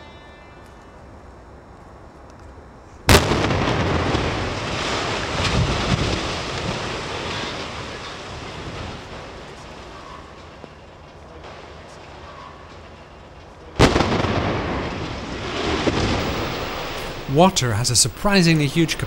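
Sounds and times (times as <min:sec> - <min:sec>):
demolition charge bang: 0:03.1 - 0:19.0
tower collapsing rumble and crash: 0:03.1 - 0:19.0.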